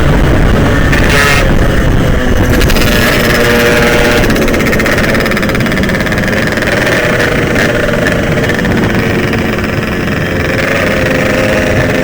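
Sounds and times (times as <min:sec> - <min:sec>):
two-stroke motorcycle engine: 0:00.0 - 0:12.0
wind rush: 0:00.0 - 0:12.0.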